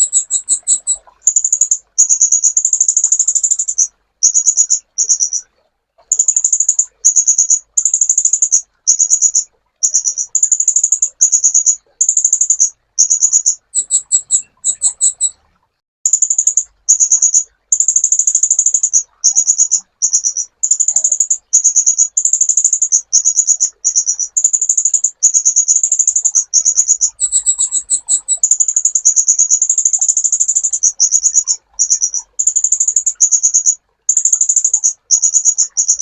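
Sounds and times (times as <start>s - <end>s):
bird trilling chatter: 0.0s - 2.6s, 6.1s - 15.4s, 16.1s - 36.0s.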